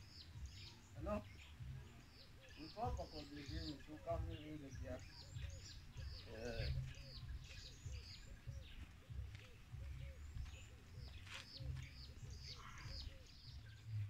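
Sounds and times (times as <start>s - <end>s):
birds chirping: 0.0s - 14.0s
short low repeating bird calls: 0.0s - 14.0s.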